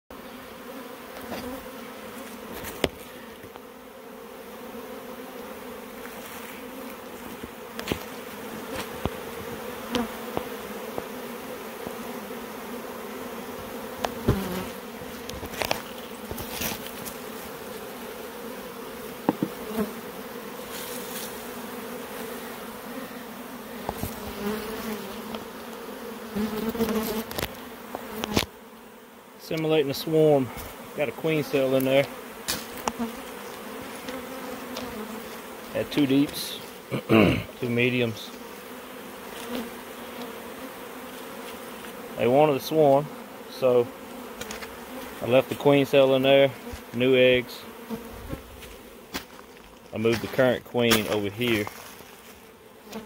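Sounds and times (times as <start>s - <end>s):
bees buzzing: 0.1s - 53.0s.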